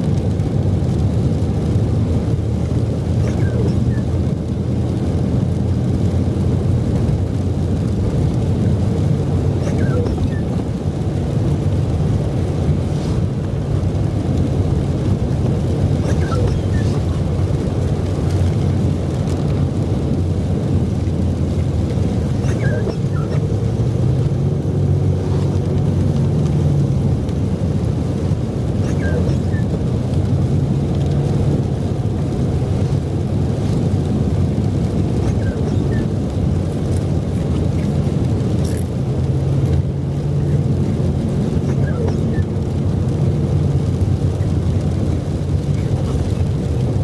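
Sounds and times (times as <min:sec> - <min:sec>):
vehicle engine and road rumble: 0:00.0 - 0:47.0.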